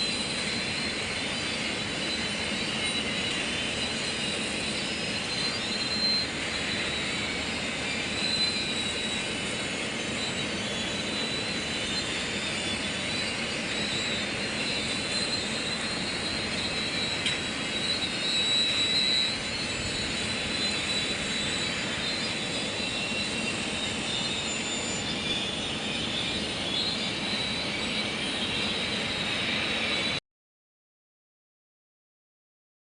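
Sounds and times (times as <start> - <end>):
thin high whine: 0.0 - 30.2.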